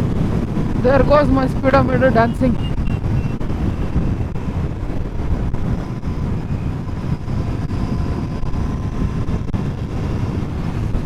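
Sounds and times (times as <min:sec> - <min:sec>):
road noise: 0:00.0 - 0:11.0
wind on microphone: 0:00.0 - 0:11.0.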